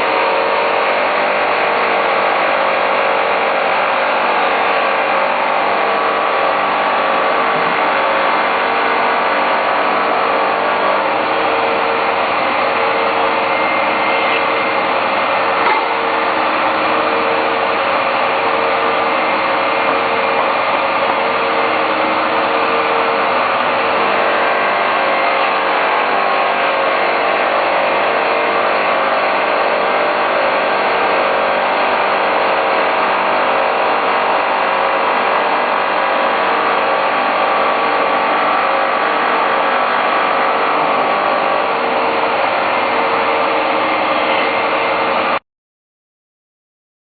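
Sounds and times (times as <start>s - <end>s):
polishing machine motor hum: 0.0s - 45.4s.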